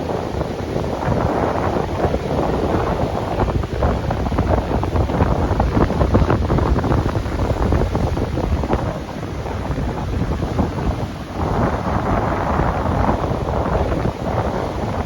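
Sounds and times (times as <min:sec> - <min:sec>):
heavy surf: 0:00.0 - 0:15.0
wind buffeting microphone: 0:00.0 - 0:15.0.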